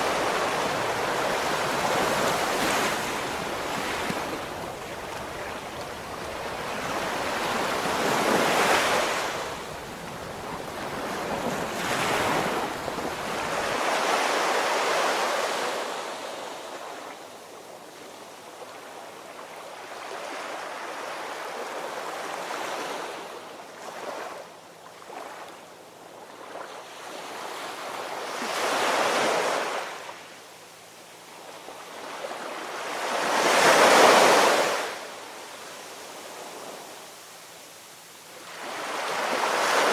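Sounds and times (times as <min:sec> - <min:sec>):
waves breaking and washing in: 0:00.0 - 0:39.9.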